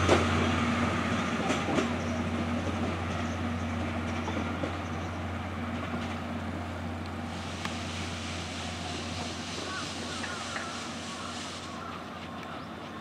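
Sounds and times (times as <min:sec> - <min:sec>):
train coaches rumbling on rails: 0:00.0 - 0:13.0.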